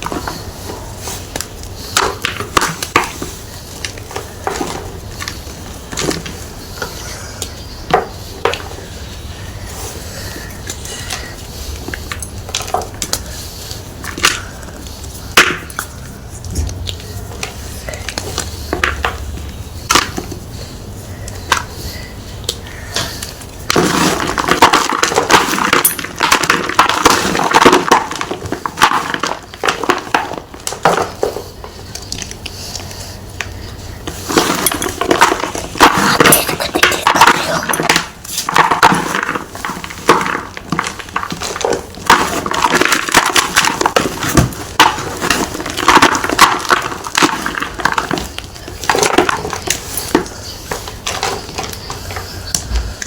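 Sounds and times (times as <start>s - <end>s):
chalk crunching and crumbling: 0.0s - 52.7s.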